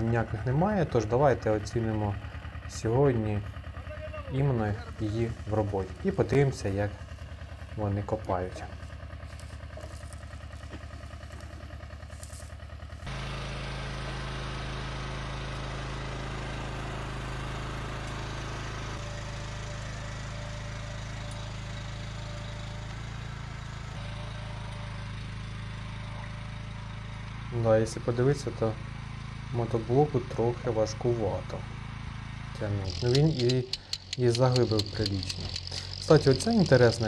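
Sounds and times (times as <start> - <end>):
small tractor engine running: 0.0 - 37.0
walk-behind tractor humming: 0.0 - 37.0.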